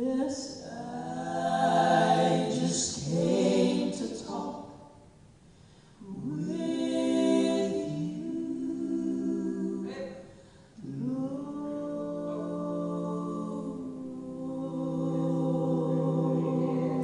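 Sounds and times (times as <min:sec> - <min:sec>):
gospel singers in harmony: 0:00.0 - 0:17.0.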